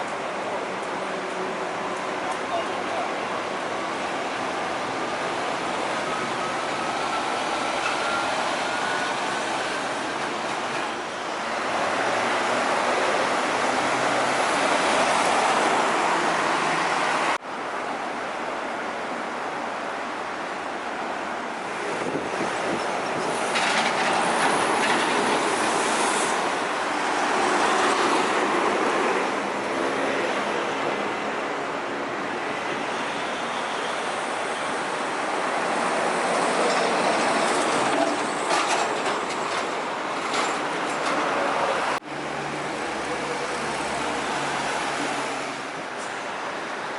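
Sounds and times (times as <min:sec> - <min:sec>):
traffic rush: 0:00.0 - 0:46.9
trucks passing on highway: 0:00.0 - 0:46.9.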